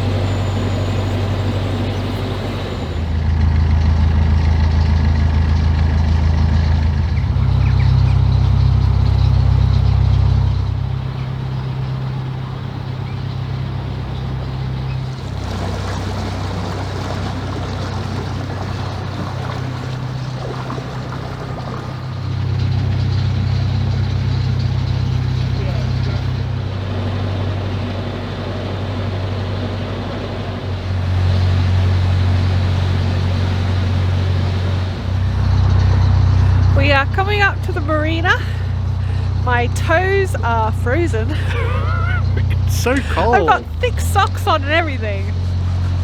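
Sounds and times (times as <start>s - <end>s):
diesel boat engine drone: 0.0s - 46.0s.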